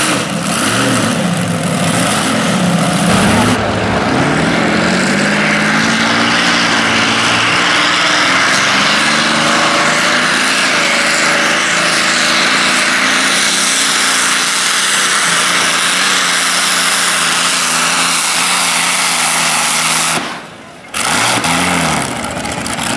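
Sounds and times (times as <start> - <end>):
tractor engine revving hard: 0.0 - 22.9.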